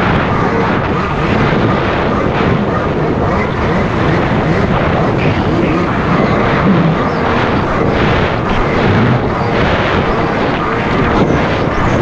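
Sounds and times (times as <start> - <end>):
jet ski engine running: 0.0 - 12.0.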